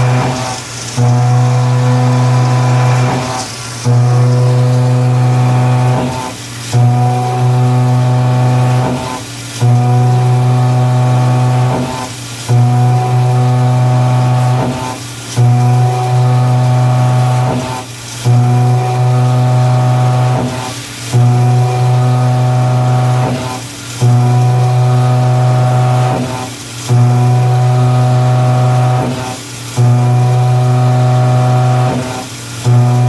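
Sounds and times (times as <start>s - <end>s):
milling machine cutting steel drone: 0.0s - 33.0s.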